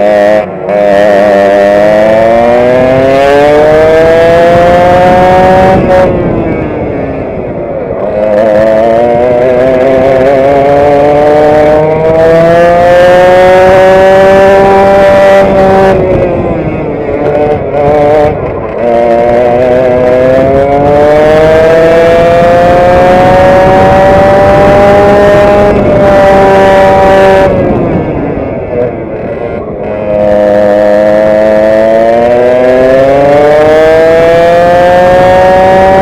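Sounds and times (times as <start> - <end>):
kart engine at full throttle: 0.0 - 36.0.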